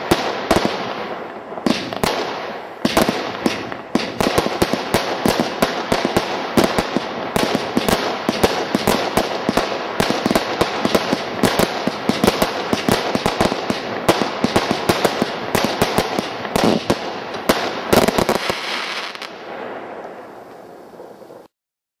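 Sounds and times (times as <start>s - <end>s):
firework barrage bangs: 0.0s - 20.3s.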